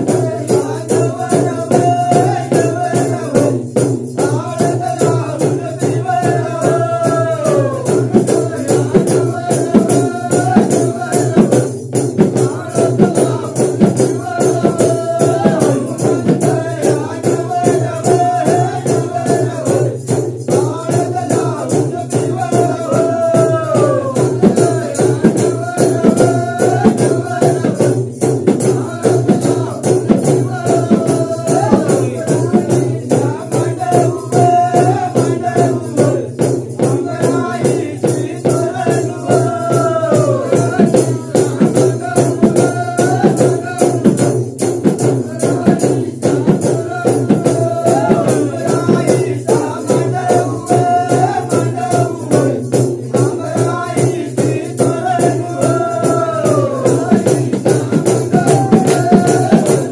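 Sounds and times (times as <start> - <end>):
barrel drums beaten fast: 0.0 - 59.9
man singing devotional melody: 0.0 - 59.9.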